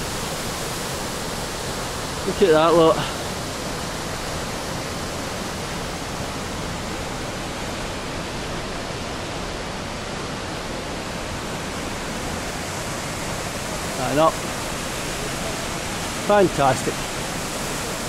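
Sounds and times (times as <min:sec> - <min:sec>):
river whitewater roaring: 0:00.0 - 0:18.0.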